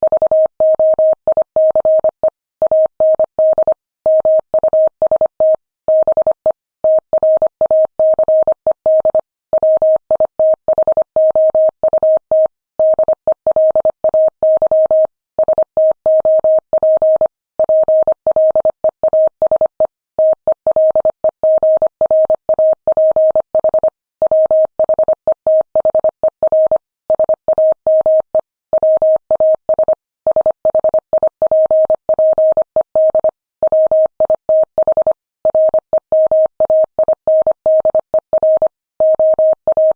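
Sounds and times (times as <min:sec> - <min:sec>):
morse code beeps: 0:06.9 - 0:39.9.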